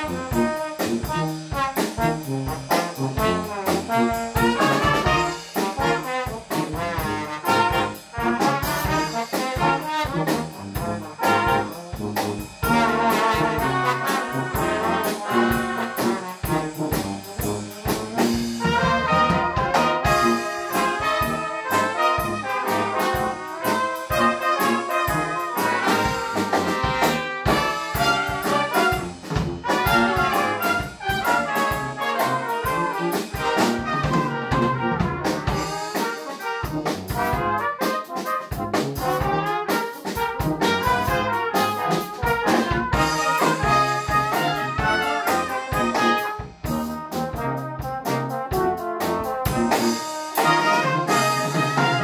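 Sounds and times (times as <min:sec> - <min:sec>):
brass band playing: 0:00.0 - 0:52.0
drum kit beat: 0:00.0 - 0:52.0.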